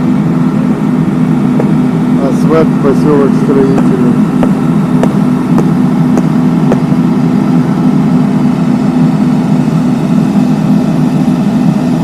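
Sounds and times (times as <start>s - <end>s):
heavy machinery engine humming: 0.0s - 12.0s.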